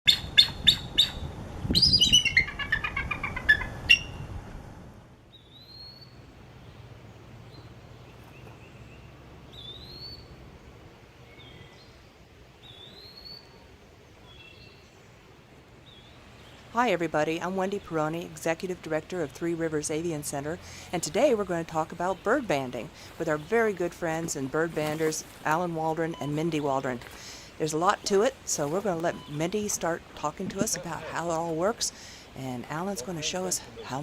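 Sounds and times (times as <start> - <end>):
songbirds singing: 0.1 - 4.3, 5.3 - 34.0.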